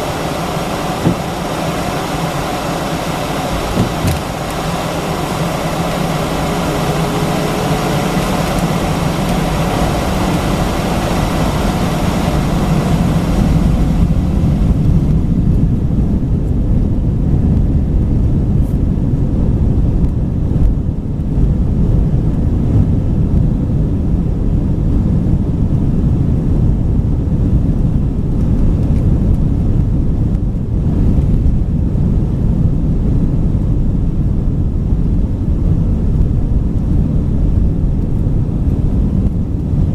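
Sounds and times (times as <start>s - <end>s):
jet engine cabin rush: 0.0s - 23.8s, 26.4s - 39.9s
deep steady rumble: 0.0s - 39.9s.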